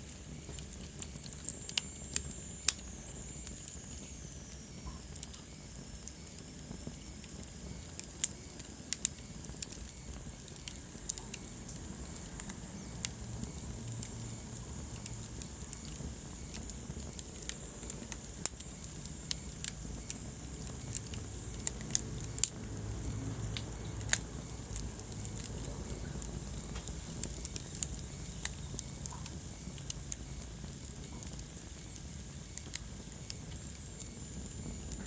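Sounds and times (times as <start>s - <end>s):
fireplace crackling with sharp pops: 0.0s - 35.0s
low rumble of flames: 0.0s - 35.0s.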